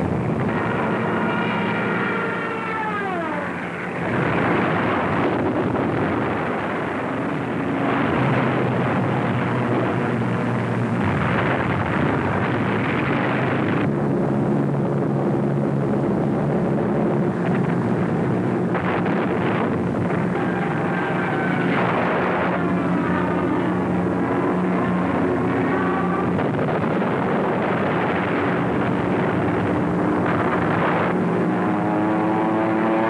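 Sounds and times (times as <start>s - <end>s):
propeller aircraft droning: 0.0s - 33.0s.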